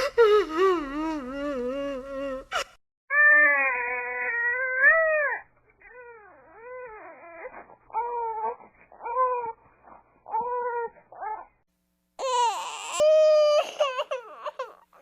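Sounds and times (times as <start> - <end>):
baby crying: 0.0 - 9.6, 10.3 - 11.5, 12.2 - 15.0.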